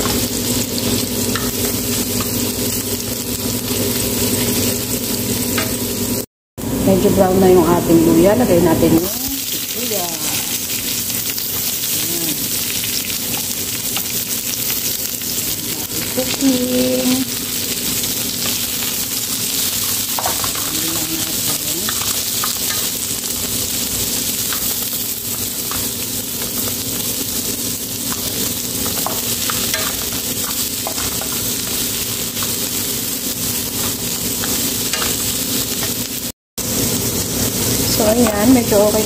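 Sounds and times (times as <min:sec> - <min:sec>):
onion sizzling in oil: 0:00.0 - 0:39.0.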